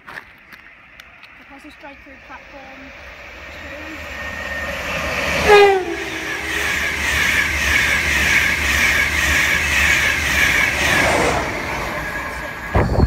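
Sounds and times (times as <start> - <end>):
train wheels rushing on rail: 0.0 - 13.0.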